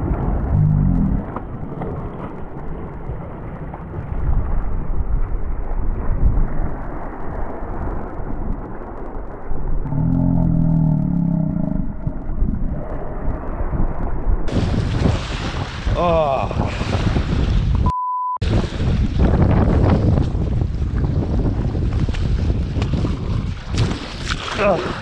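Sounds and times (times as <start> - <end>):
wind buffeting microphone: 0.0 - 10.7, 11.6 - 25.0.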